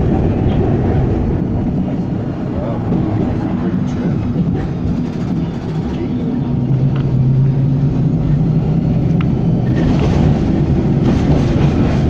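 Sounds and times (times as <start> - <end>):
tram rumbling along track: 0.0 - 12.0.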